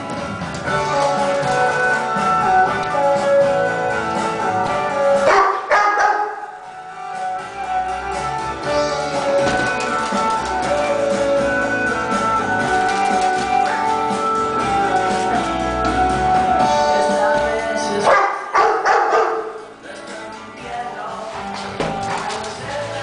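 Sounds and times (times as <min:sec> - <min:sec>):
guitar background music: 0:00.0 - 0:23.0.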